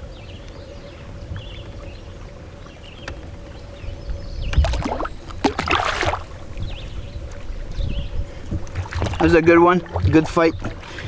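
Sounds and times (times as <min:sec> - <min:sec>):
low rumble of wind: 0:00.0 - 0:11.0
water around a canoe: 0:00.0 - 0:11.0.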